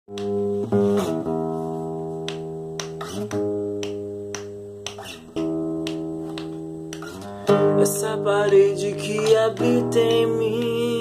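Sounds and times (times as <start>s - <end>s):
acoustic guitar chords: 0.1s - 11.0s.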